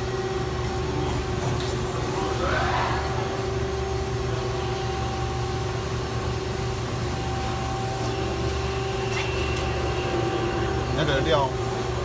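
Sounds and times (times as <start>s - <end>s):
lathe machine hum with whine: 0.0s - 12.0s.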